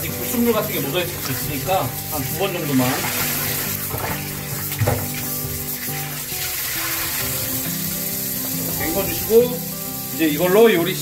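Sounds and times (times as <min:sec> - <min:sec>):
background music: 0:00.0 - 0:11.0
tap water running: 0:00.0 - 0:11.0.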